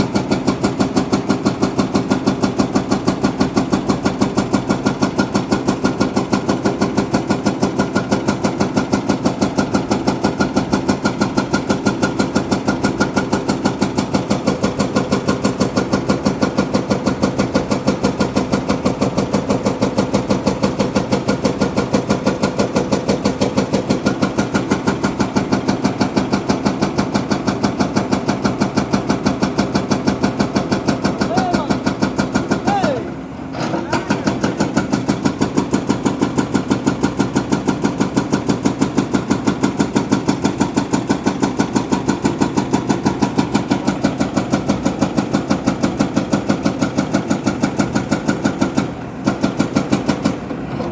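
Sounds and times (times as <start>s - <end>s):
diesel engine idling: 0.0s - 50.7s.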